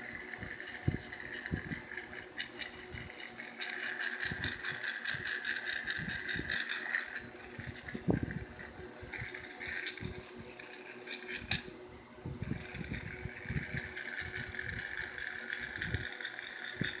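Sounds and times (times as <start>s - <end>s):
toy train motor whirring: 0.0s - 11.7s, 12.4s - 17.0s.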